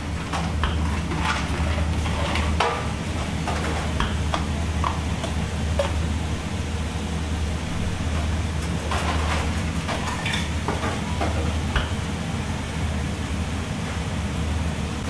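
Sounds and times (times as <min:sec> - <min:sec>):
kitchen equipment hum: 0:00.0 - 0:15.0.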